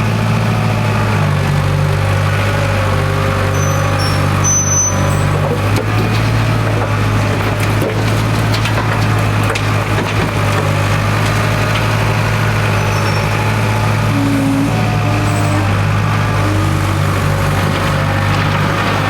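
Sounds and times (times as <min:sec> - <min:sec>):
backhoe diesel engine running: 0:00.0 - 0:19.0.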